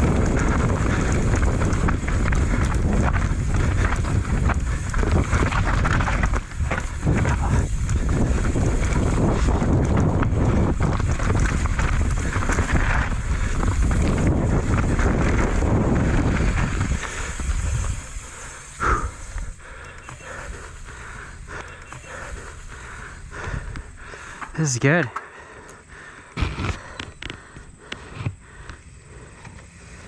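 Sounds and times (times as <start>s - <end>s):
wind buffeting microphone: 0.0s - 24.6s
bike rattling over rough trail: 0.0s - 30.0s.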